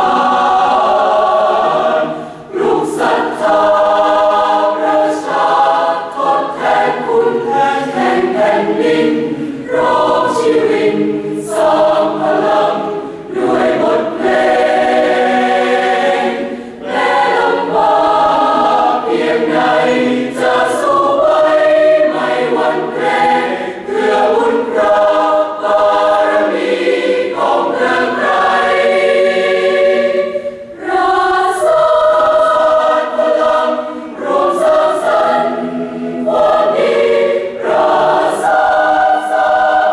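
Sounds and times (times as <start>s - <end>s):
mixed choir singing in harmony: 0.0s - 39.9s.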